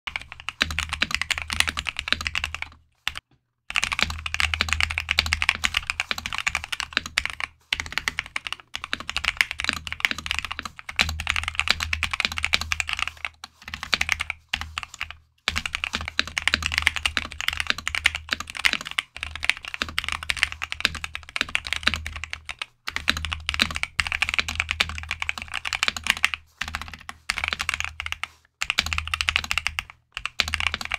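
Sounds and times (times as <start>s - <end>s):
mechanical keyboard typing: 0.1s - 30.9s.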